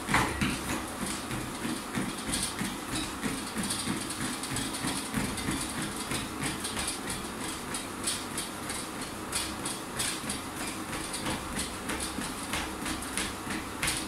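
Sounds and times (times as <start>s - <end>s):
footfalls on treadmill belt: 0.0s - 14.0s
treadmill running: 0.0s - 14.0s.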